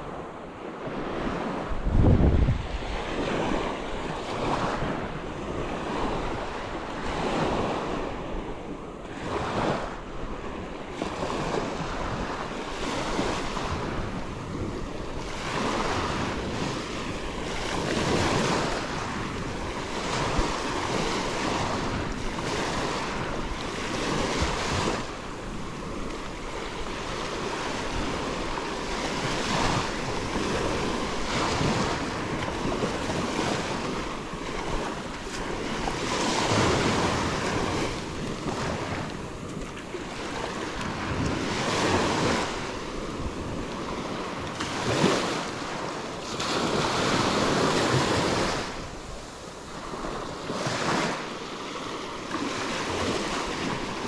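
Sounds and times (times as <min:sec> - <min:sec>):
waves breaking on sand beach: 0:00.0 - 0:54.0.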